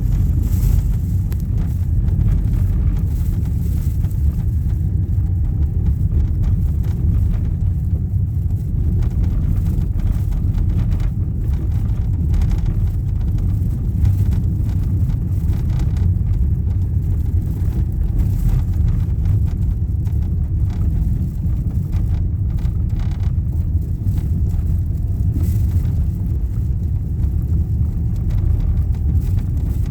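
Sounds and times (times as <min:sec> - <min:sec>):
car driving on gravel road: 0:00.0 - 0:29.9.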